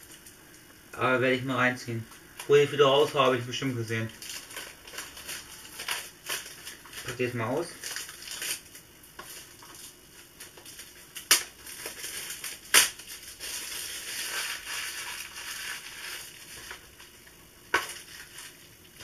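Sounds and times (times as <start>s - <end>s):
shrink-wrap crinkling and tearing: 2.1s - 19.0s.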